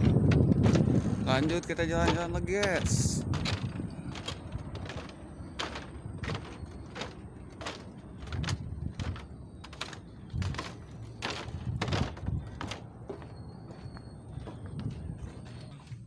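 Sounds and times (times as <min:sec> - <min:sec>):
footsteps on wooden boards: 0:00.0 - 0:16.0.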